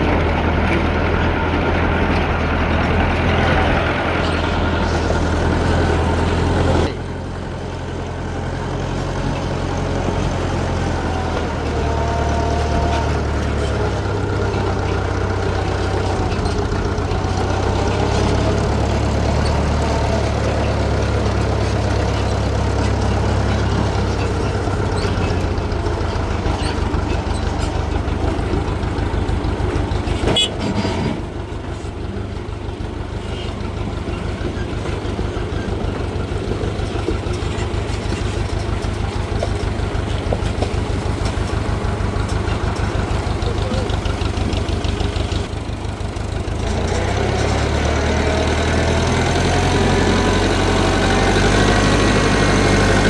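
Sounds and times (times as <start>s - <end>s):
heavy engine rumbling: 0.0s - 53.0s.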